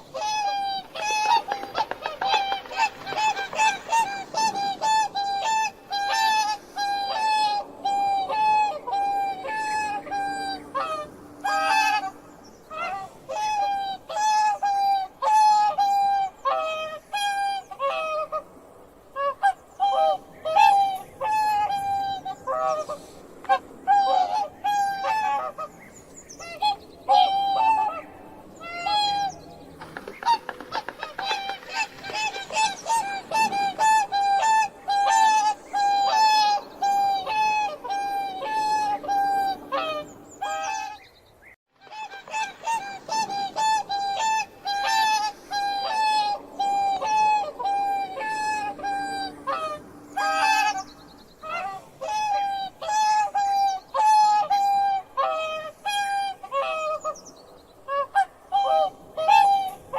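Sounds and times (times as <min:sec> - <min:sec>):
swans squawking: 0:00.0 - 0:41.1, 0:41.8 - 0:59.9.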